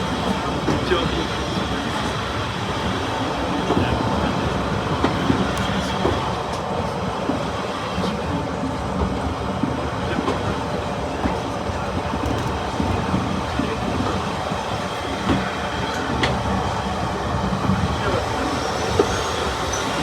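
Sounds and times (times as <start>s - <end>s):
train rumble from aboard: 0.0s - 20.0s.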